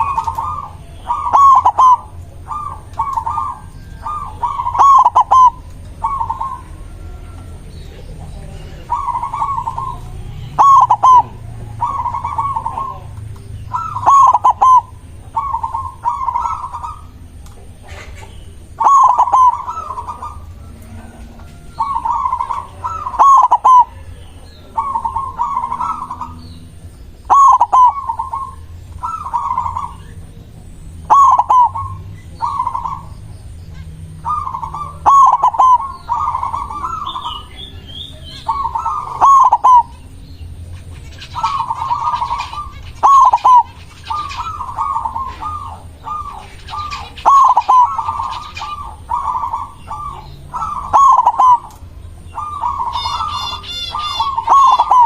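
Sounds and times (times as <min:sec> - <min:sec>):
dove cooing with clicking notes: 0:00.0 - 0:08.1, 0:08.9 - 0:24.0, 0:27.3 - 0:29.9, 0:31.1 - 0:33.1, 0:34.3 - 0:37.2, 0:38.5 - 0:40.0, 0:41.3 - 0:55.0.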